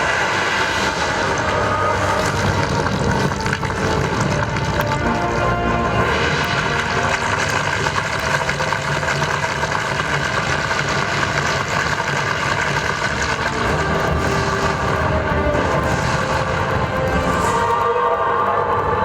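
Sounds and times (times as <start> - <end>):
ambient soundtrack over loudspeakers: 0.0 - 19.0.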